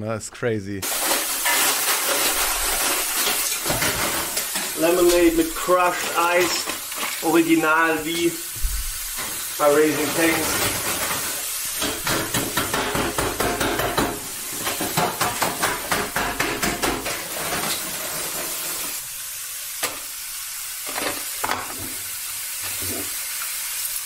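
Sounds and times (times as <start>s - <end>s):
fries sizzling in hot oil: 0.8s - 24.0s.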